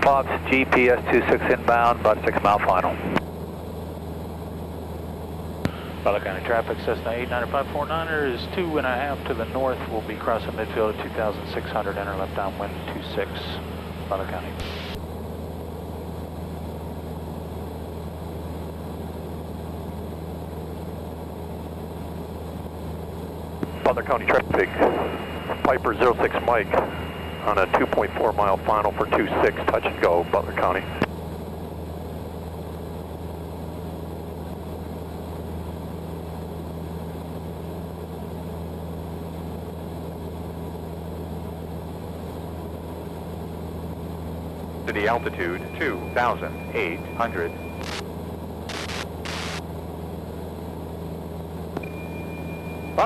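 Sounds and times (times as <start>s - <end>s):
airplane engine and propeller droning: 0.0s - 53.0s.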